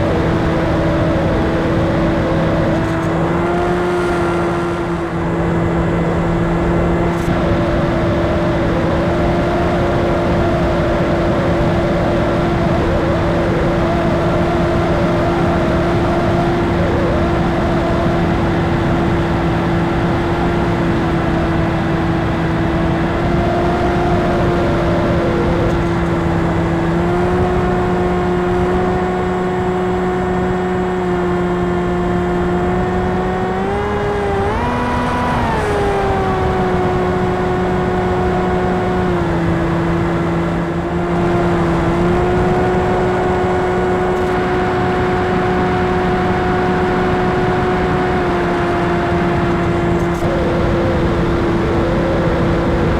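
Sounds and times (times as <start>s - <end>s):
electric motor and propeller whining: 0.0s - 52.9s.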